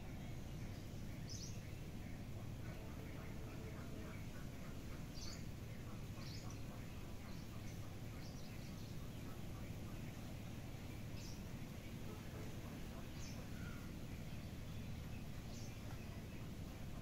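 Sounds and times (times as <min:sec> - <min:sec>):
birds chirping: 0:00.0 - 0:17.0
low outdoor rumble: 0:00.0 - 0:17.0.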